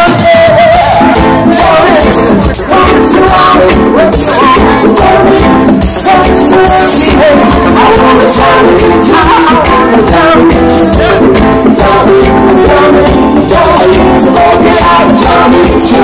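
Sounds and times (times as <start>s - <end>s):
live reggae band playing: 0.0s - 16.0s
man singing into microphone: 0.0s - 16.0s.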